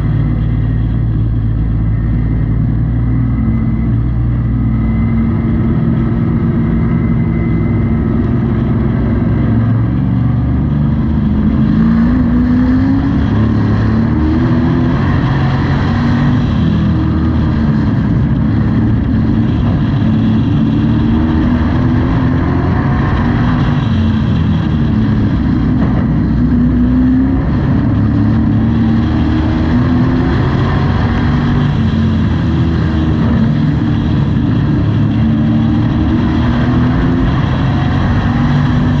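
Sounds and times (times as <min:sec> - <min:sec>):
truck engine accelerating: 0:00.0 - 0:39.0.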